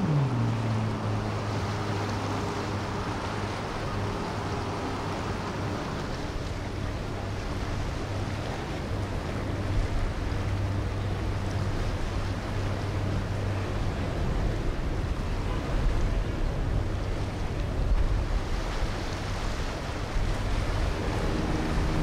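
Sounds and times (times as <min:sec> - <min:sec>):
motorboat engine humming: 0:00.0 - 0:22.0
water noise: 0:00.0 - 0:22.0
wind: 0:00.0 - 0:22.0.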